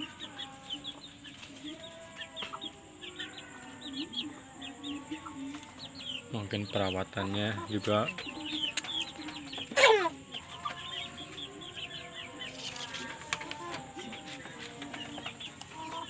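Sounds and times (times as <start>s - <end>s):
chicks peeping and clucking: 0.0s - 16.0s.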